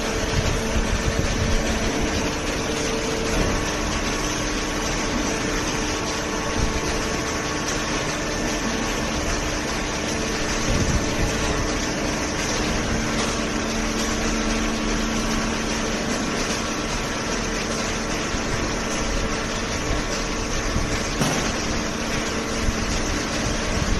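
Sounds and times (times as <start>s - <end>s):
hydraulic power unit humming: 0.0s - 23.9s
low machine tone: 0.0s - 23.9s.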